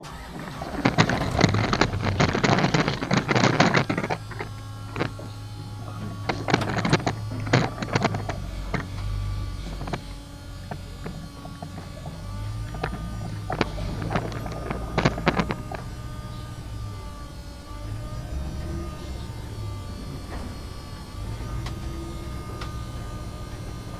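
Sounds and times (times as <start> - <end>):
motor humming: 0.0 - 23.9
rattling clatter: 0.0 - 23.9.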